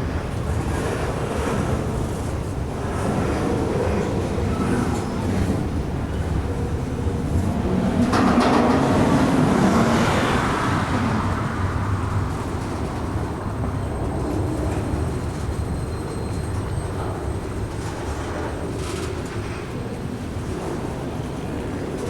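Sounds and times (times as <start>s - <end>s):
diesel freight train passing: 0.0s - 22.0s.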